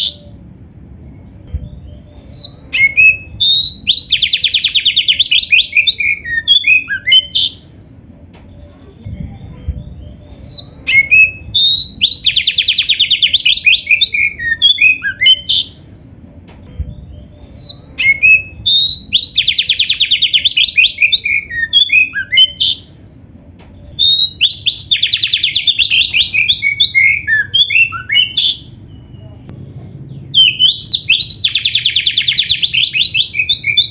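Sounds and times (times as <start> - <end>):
faint low hum: 0.0 - 33.9
bird singing whistles and trills: 1.1 - 7.6, 9.7 - 15.8, 16.8 - 22.9, 23.8 - 29.4, 30.3 - 33.9.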